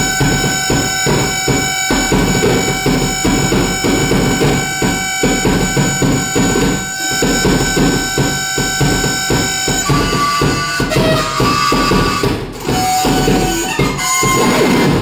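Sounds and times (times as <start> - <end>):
grainy pulsing rhythm: 0.0 - 15.0
sustained high tones: 0.0 - 15.0.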